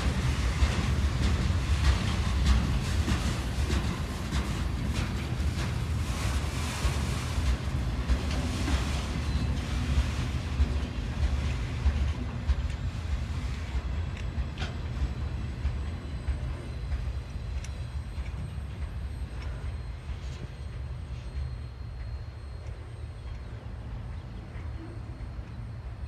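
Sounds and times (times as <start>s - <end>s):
freight train rumble: 0.0s - 26.0s.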